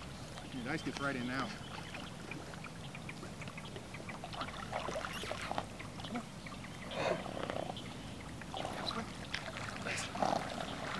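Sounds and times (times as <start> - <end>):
horses splashing through water: 0.0 - 10.9.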